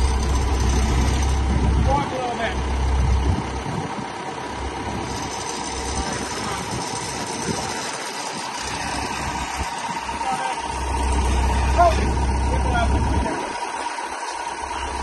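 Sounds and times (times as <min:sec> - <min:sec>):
wind buffeting microphone: 0:00.0 - 0:14.0
tractor diesel engine idling: 0:00.0 - 0:15.0.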